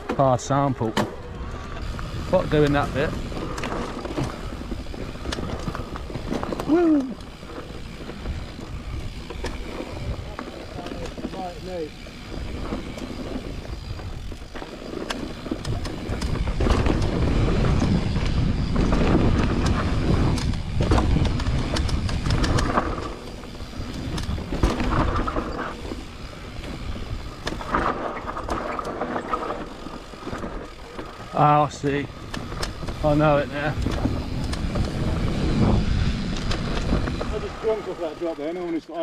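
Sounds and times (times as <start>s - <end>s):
bike rattling and clicking: 0.0s - 39.0s
bike tyres on dirt: 0.0s - 39.0s
wind on microphone: 1.3s - 31.3s, 31.9s - 37.8s.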